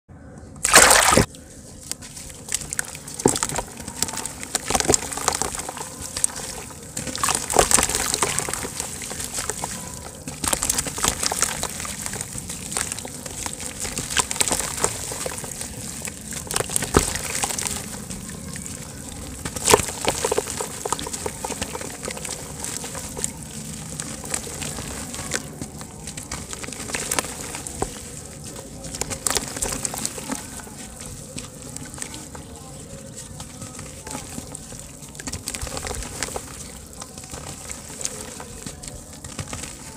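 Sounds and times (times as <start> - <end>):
hands sloshing in water: 0.6 - 39.9
water dripping: 0.6 - 39.9
wet dirt crumbling: 0.6 - 39.9.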